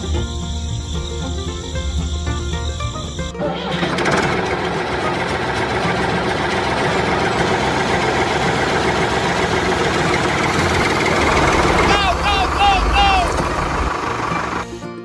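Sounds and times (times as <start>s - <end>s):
background music: 0.0s - 15.0s
small tractor motor running: 0.0s - 15.0s.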